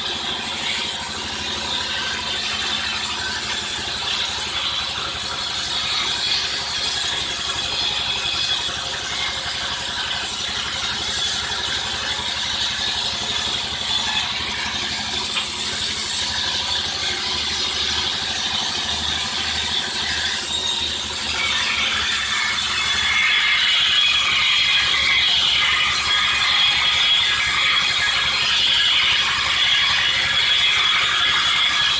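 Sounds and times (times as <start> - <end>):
sawmill machinery clattering: 0.0 - 31.9.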